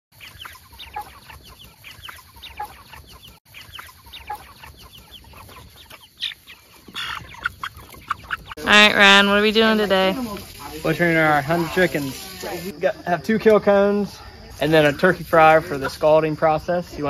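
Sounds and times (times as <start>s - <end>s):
chickens peeping and clucking: 0.1s - 17.0s.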